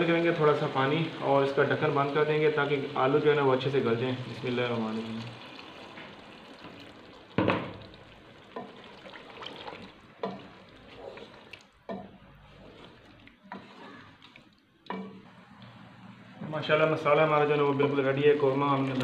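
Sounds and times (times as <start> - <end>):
water pouring into a pot: 0.0 - 15.0, 17.0 - 19.0
spatula stirring wet food: 0.0 - 16.0.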